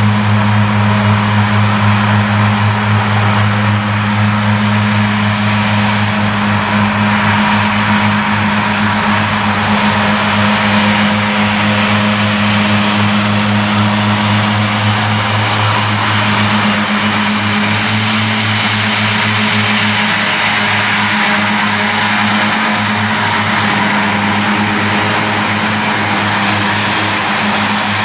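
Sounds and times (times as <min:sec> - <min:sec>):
diesel engine hum: 0:00.0 - 0:28.0
mower cutting discs whirring: 0:00.0 - 0:28.0.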